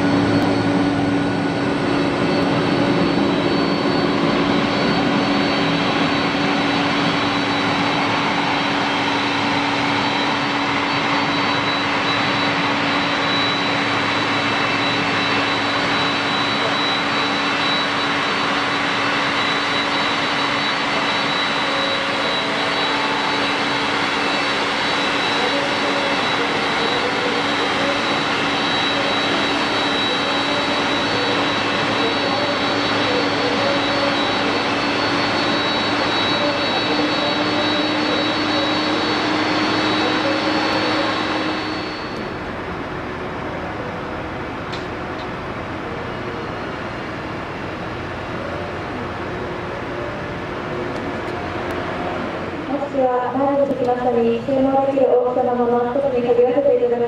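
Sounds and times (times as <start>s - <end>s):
jet airliner noise: 0.0s - 57.0s.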